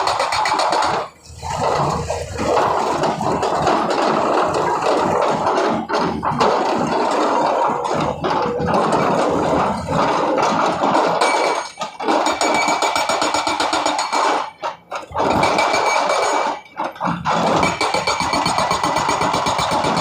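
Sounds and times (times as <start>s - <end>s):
hydraulic rock breaker hammering: 0.0s - 20.0s.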